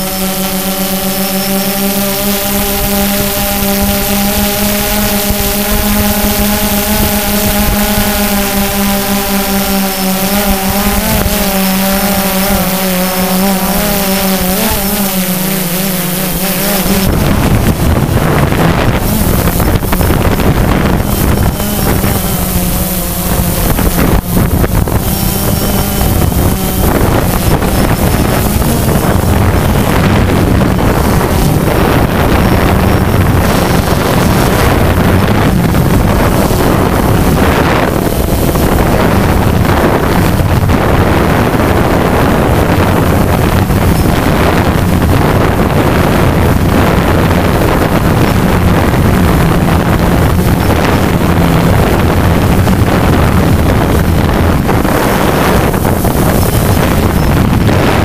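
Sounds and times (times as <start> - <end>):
drone propellers humming: 0.0 - 58.0
wind rush on microphone: 0.0 - 58.0.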